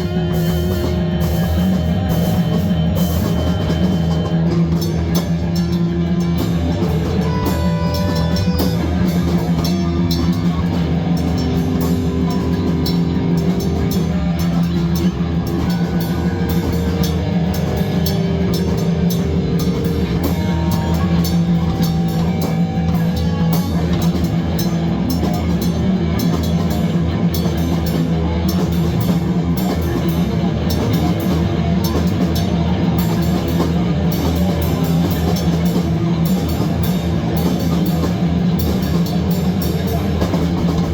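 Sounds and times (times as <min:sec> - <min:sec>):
drum kit: 0:00.0 - 0:40.9
loud rock music: 0:00.0 - 0:40.9.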